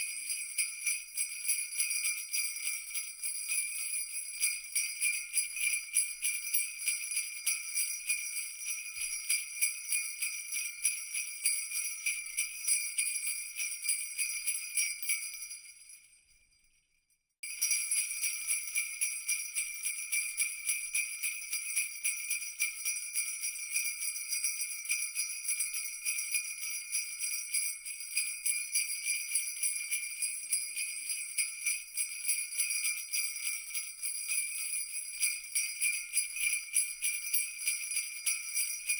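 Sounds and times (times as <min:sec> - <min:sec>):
jingle bells shaken: 0:00.0 - 0:38.9.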